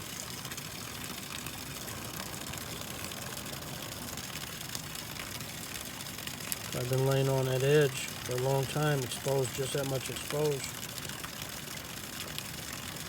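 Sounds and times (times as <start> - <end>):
steady outdoor background noise: 0.0 - 13.0.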